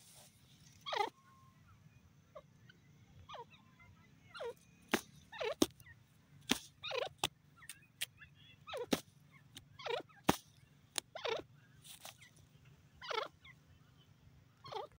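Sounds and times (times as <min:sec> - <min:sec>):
francolin calling: 0:00.7 - 0:06.0, 0:06.8 - 0:10.3, 0:11.0 - 0:15.0.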